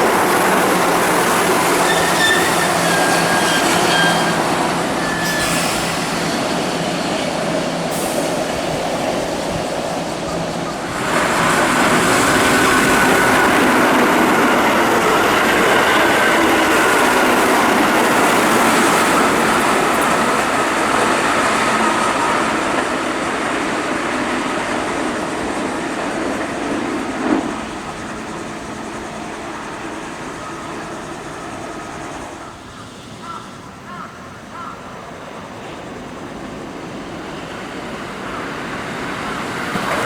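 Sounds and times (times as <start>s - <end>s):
electric train passing: 0.0s - 40.0s
train wheels on rails: 0.0s - 40.0s.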